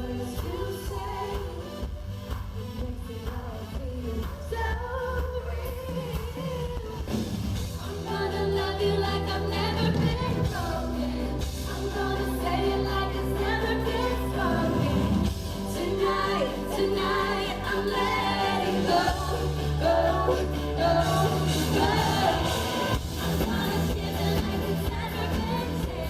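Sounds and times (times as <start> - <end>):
woman singing into a microphone: 0.0 - 2.0, 2.6 - 26.0.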